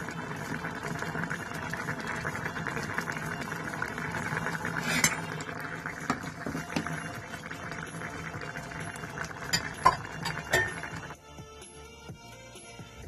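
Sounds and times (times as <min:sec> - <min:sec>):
curry bubbling in saucepan: 0:00.0 - 0:11.2.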